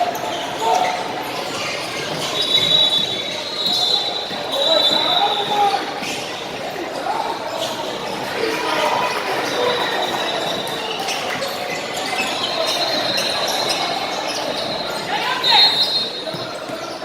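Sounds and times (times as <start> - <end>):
shoe squeaks: 0.0 - 17.0
voices of players and spectators: 0.0 - 17.0.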